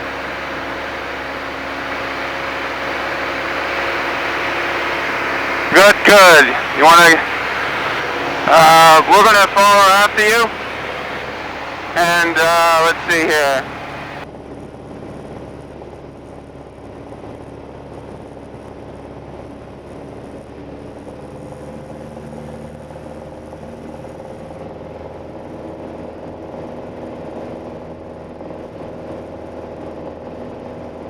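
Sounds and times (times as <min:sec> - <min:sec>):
airplane engine and propeller drone: 0:00.0 - 0:31.0.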